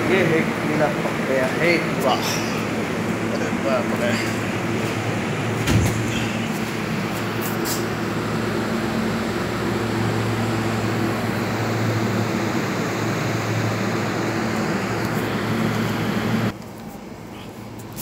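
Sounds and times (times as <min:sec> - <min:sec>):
constant low hum: 0:00.0 - 0:18.0
fan air rushing: 0:00.0 - 0:18.0.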